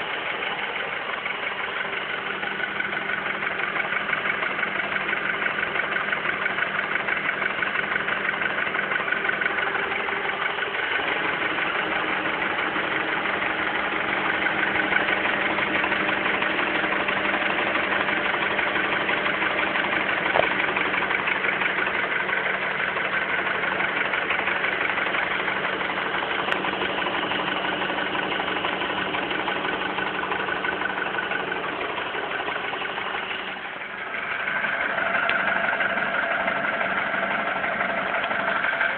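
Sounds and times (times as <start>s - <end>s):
car engine idling: 0.0s - 38.9s
engine knocking: 0.0s - 38.9s.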